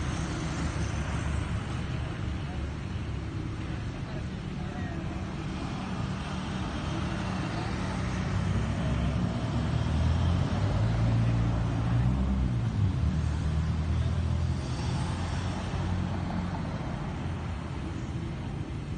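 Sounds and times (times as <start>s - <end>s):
car engines passing: 0.0s - 18.9s.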